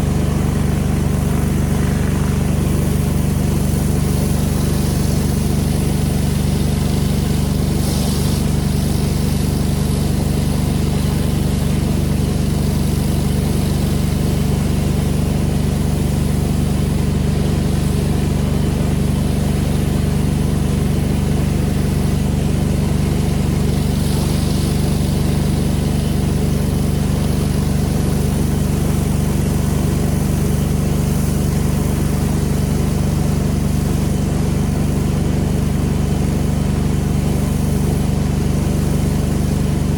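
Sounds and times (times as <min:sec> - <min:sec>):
pressure washer engine droning: 0:00.0 - 0:39.9.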